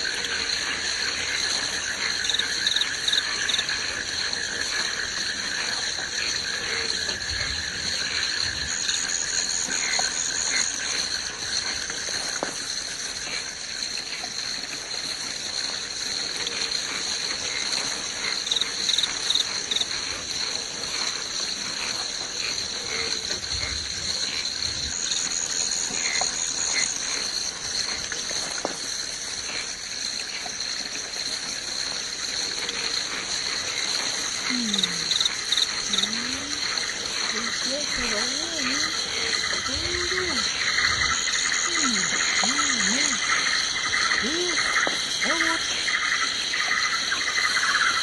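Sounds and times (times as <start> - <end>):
high-pitched insect trills: 0.0 - 48.0.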